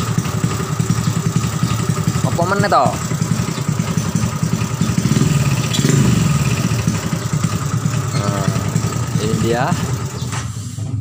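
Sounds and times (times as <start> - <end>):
motorcycle engine idling: 0.0 - 11.0
motorcycle engine revving: 0.0 - 11.0.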